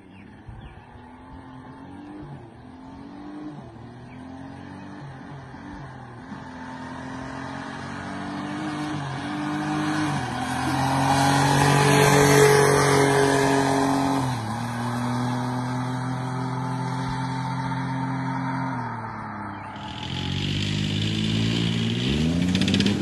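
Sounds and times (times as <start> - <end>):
golf cart engine accelerating: 0.0 - 23.0.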